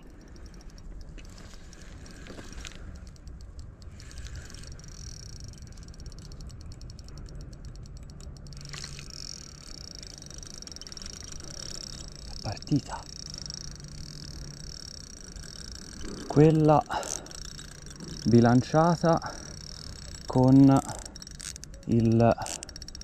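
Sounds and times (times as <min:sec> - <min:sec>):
fishing reel ratchet clicking: 0:00.0 - 0:23.0.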